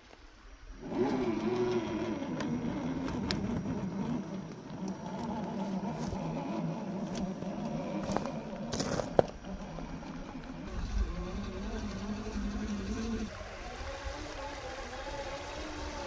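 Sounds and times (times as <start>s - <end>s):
electric motor and gears whining: 0.6s - 16.0s.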